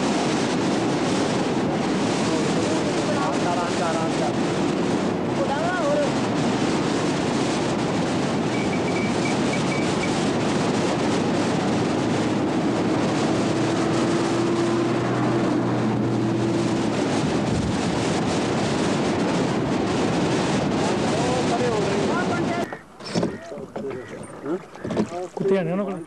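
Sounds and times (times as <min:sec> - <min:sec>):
boat engine drone: 0:00.0 - 0:26.0
wind on microphone: 0:00.0 - 0:26.0.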